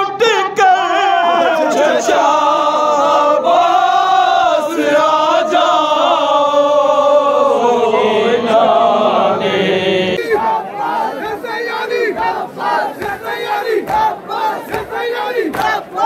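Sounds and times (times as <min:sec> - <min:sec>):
group chanting a lament: 0:00.0 - 0:16.0.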